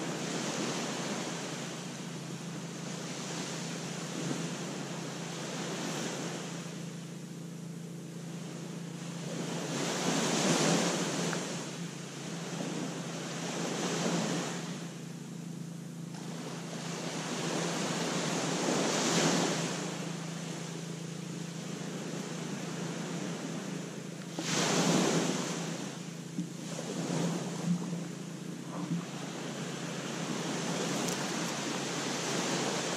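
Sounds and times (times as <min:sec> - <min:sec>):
small waves breaking on beach: 0:00.0 - 0:32.9.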